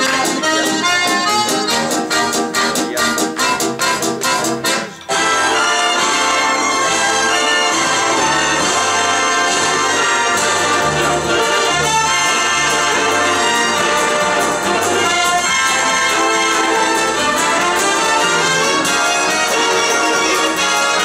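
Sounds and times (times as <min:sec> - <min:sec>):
orchestral music with brass: 0:00.0 - 0:21.0.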